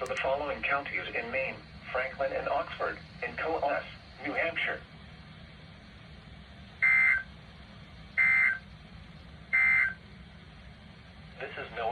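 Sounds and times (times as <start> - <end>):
low radio hiss: 0.0 - 11.9.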